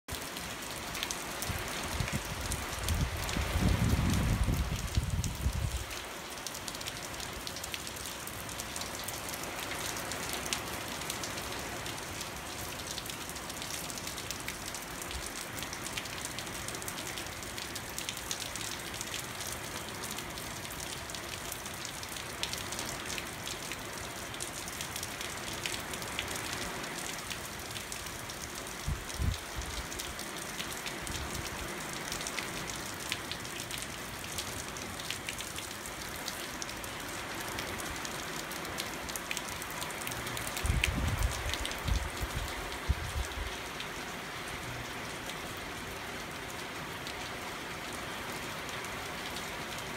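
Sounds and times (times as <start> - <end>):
heavy rain pouring: 0.1 - 49.9.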